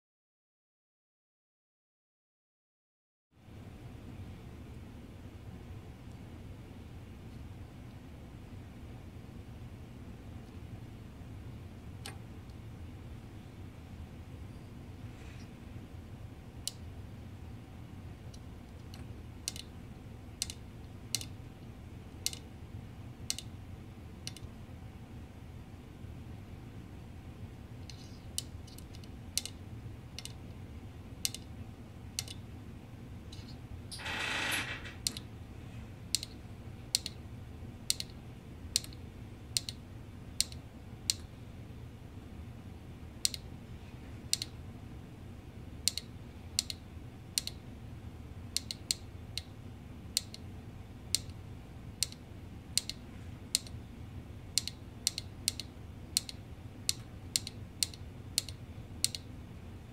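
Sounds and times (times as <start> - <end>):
steady low hum: 3.4 - 59.9.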